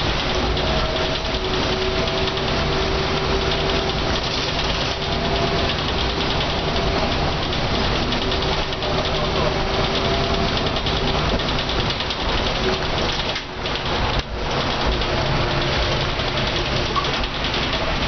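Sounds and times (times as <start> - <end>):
bus diesel engine running: 0.0 - 18.0
steady whine: 0.0 - 18.0.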